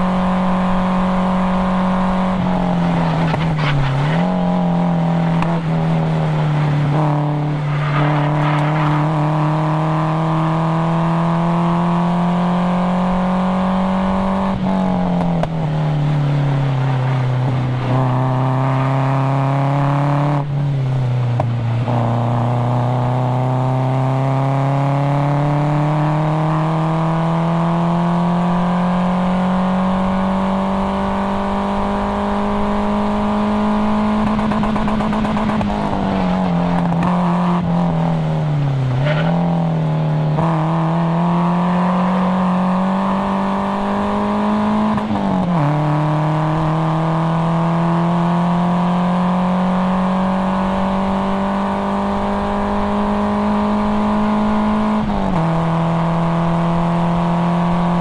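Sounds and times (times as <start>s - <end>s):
car engine revving on track: 0.0s - 58.0s.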